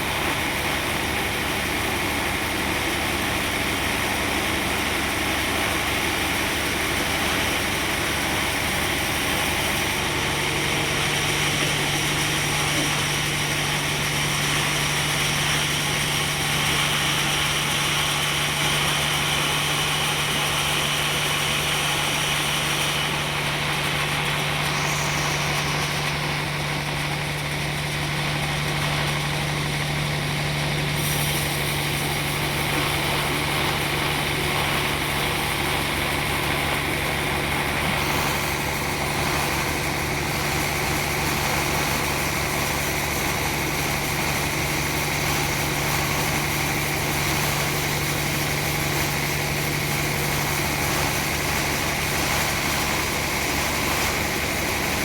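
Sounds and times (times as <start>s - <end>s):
sawmill machinery running: 0.0s - 55.0s
steady low hum: 6.4s - 55.0s.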